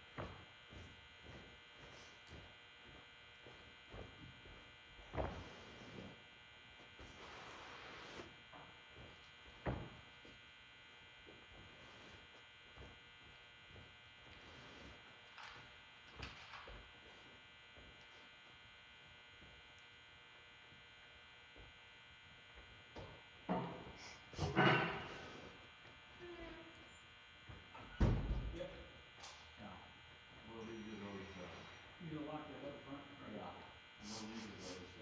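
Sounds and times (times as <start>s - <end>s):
electrical hum and buzz: 0.0s - 35.0s.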